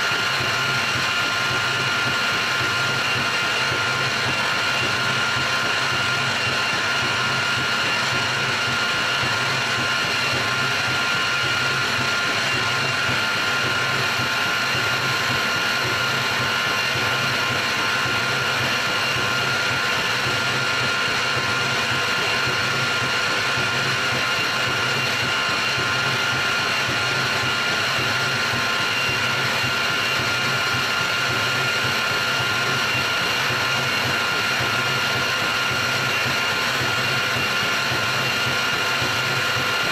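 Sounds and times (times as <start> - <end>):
milling machine cutting with whine: 0.0 - 39.9.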